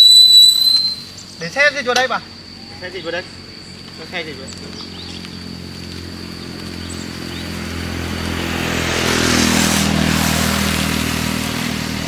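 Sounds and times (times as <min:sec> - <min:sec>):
motorcycle engine: 0:02.2 - 0:12.0.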